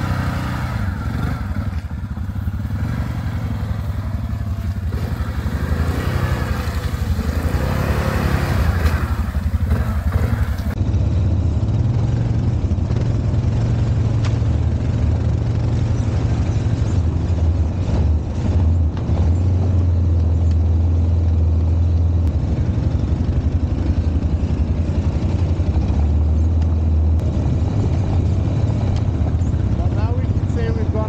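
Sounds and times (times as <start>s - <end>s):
knocks and rattles over rough ground: 0.0s - 10.8s, 12.5s - 31.0s
atv engine droning: 0.0s - 31.0s.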